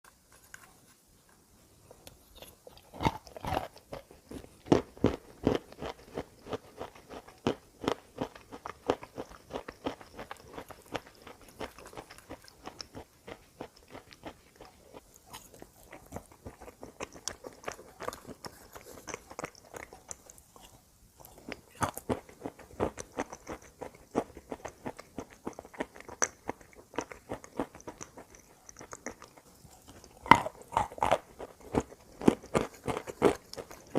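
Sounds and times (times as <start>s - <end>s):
chewing chalk crunches: 1.9s - 33.9s.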